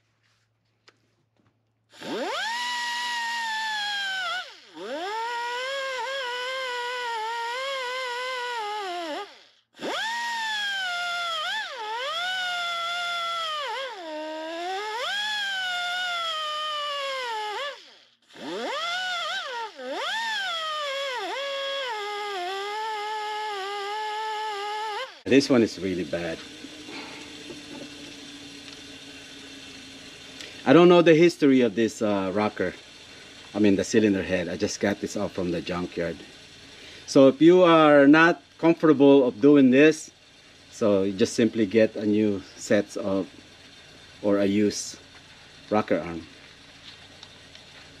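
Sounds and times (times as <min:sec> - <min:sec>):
pneumatic die grinder whining: 0:01.9 - 0:48.0.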